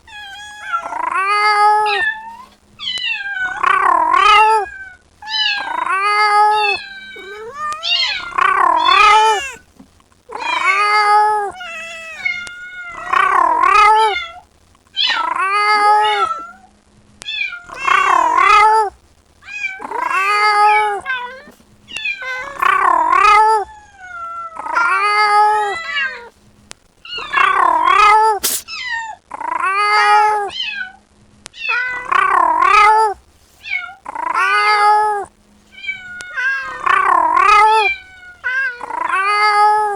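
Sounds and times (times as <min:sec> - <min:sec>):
kitten meowing loudly: 0:00.1 - 0:09.6, 0:10.3 - 0:14.4, 0:15.0 - 0:16.6, 0:17.3 - 0:26.3, 0:27.1 - 0:31.0, 0:31.6 - 0:39.9.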